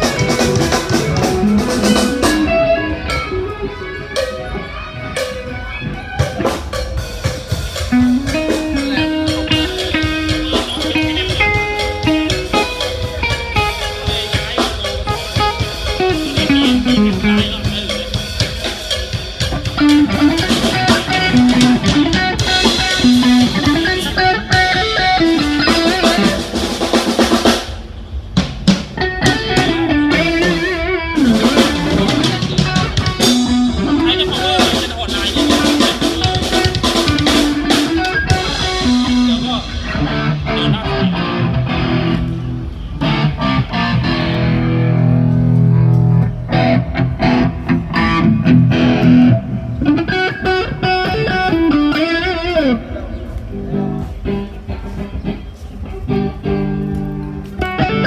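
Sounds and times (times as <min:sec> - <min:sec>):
guitar melody: 0:00.0 - 0:27.6, 0:28.7 - 0:58.0
drum kit: 0:00.0 - 0:52.8.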